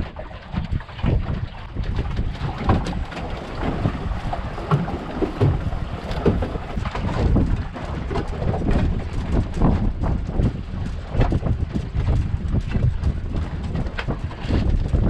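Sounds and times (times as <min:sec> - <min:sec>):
water splashes and knocks: 0:00.0 - 0:15.0
wind buffeting microphone: 0:00.0 - 0:15.0.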